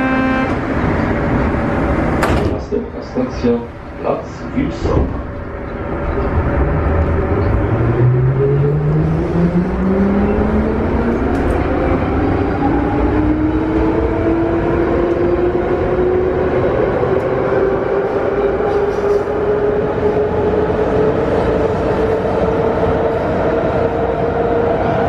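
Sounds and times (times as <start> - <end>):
wheels rumbling on track: 0.0 - 25.0.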